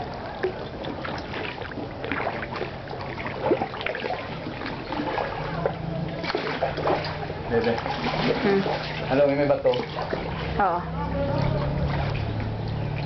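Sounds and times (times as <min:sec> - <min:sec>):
kayak paddles splashing water: 0:00.0 - 0:13.0
water dripping: 0:00.0 - 0:13.0.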